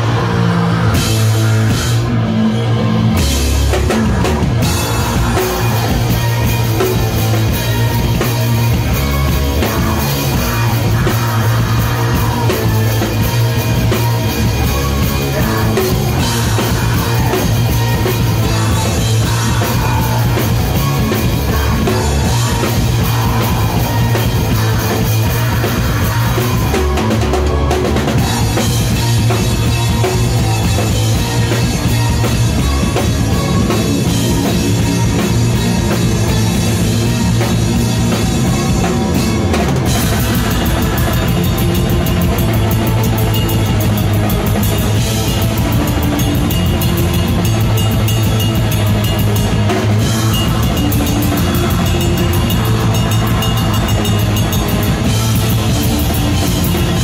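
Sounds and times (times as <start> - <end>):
black metal band playing: 0.0 - 57.0
drum kit: 0.0 - 57.0.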